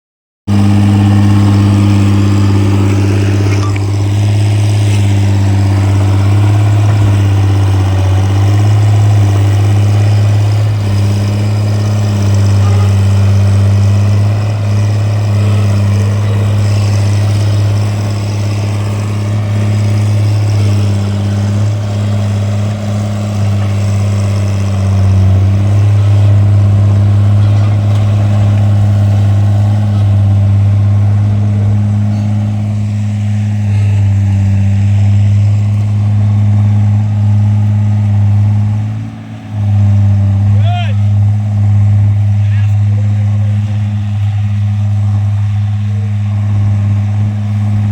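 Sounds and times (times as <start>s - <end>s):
excavator diesel engine running: 0.5s - 47.9s.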